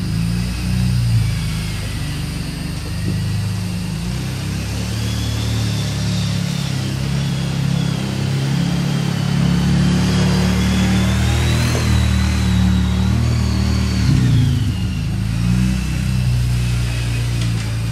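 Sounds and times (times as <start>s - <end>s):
quad engine running: 0.0s - 17.9s.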